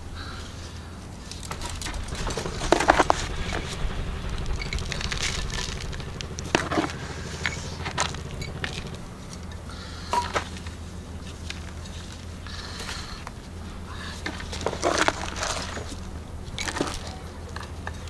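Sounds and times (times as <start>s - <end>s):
soil rustling and crackling: 0.0s - 18.0s
steady low hum: 0.0s - 18.0s.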